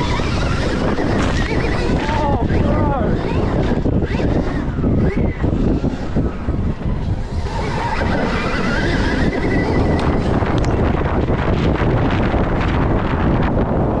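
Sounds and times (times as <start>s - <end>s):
electric motor whine: 0.0s - 13.6s
heavy rumble: 0.0s - 14.0s
wind buffeting microphone: 0.0s - 14.0s.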